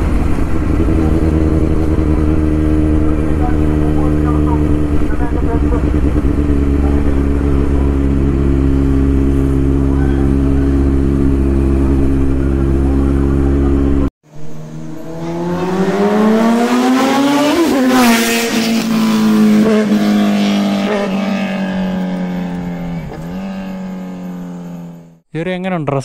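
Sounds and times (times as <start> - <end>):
motorcycle engine revving: 0.0 - 25.2.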